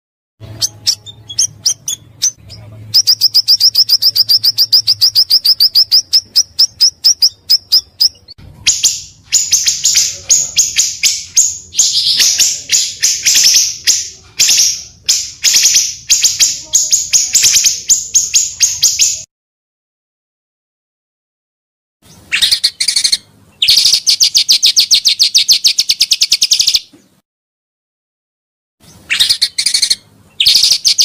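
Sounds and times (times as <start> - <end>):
bird calling: 0.4 - 19.3, 22.0 - 27.1, 28.8 - 31.0.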